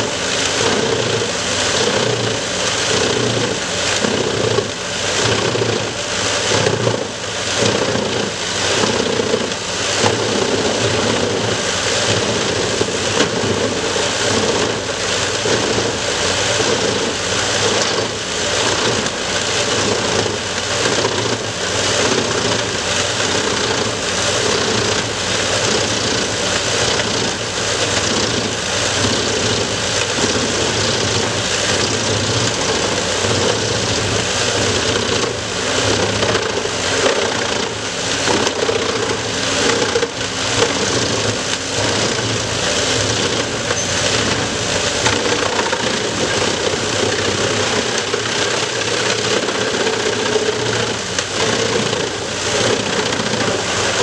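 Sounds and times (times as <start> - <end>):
tractor engine: 0.0 - 54.0
wood chipper chipping logs: 0.0 - 54.0.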